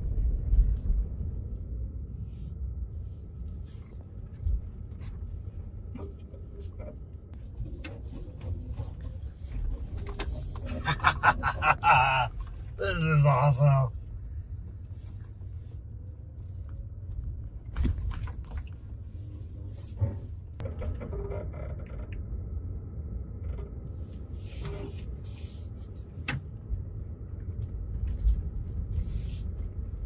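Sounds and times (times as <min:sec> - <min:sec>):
tires rolling through snow: 0:00.0 - 0:21.2, 0:22.0 - 0:30.0.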